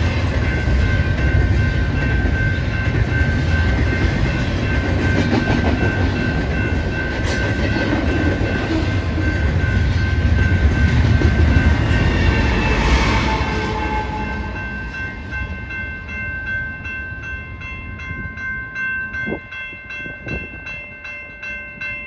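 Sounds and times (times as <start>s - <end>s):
train wheels rumbling on rail: 0.0s - 18.4s.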